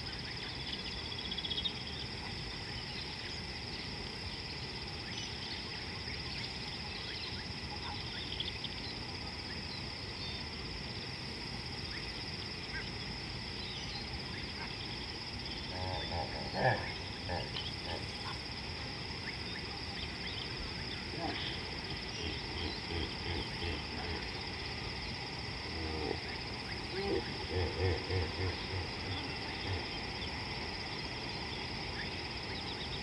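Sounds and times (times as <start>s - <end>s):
insects droning: 0.0s - 33.0s
louder insect calls: 0.0s - 33.0s.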